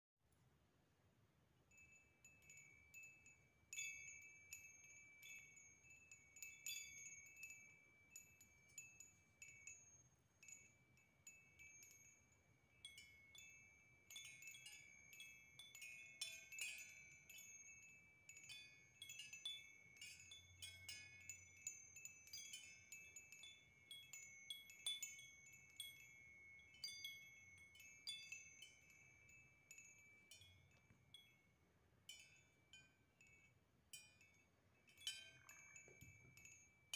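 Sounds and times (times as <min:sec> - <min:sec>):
metal wind chime ringing: 0:01.7 - 0:36.9.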